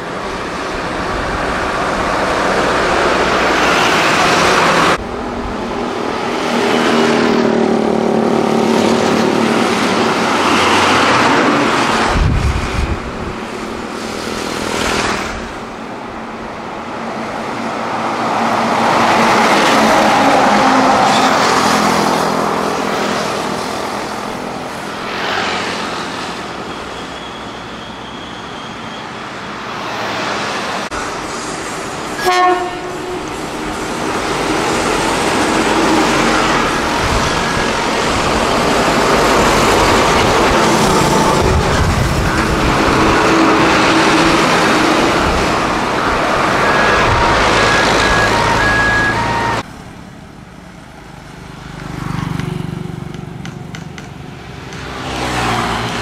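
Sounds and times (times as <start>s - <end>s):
trucks and motorcycles passing: 0.0s - 56.0s.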